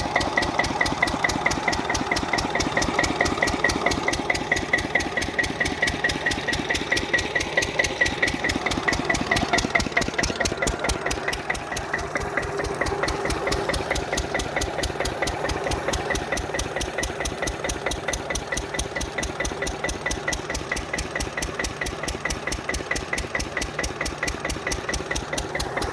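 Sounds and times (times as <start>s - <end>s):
diesel engine knocking steadily: 0.0s - 25.9s.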